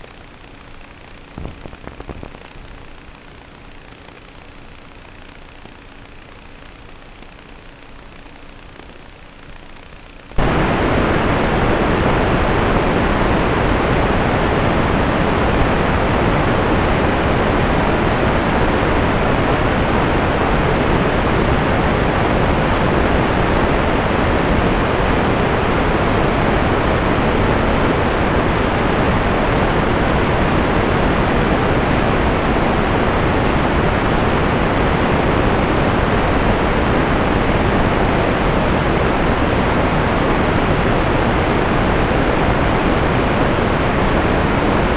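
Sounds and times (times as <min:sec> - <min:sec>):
loud static hiss: 0:00.0 - 0:44.9.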